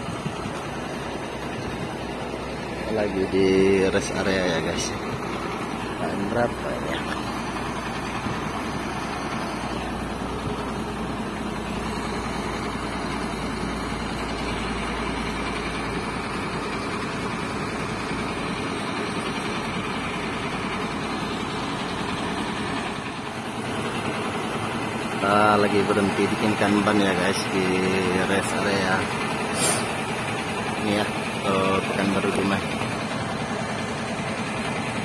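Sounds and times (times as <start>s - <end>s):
diesel trucks idling: 0.0s - 35.0s.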